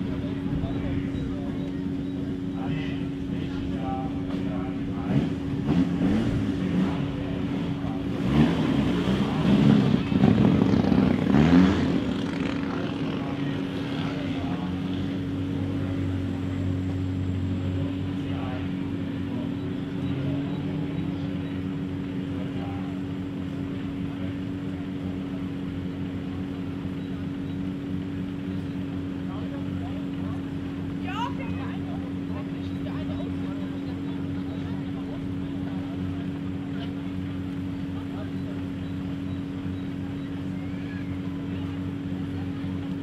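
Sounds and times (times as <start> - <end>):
rally car engines idling: 0.0 - 43.0.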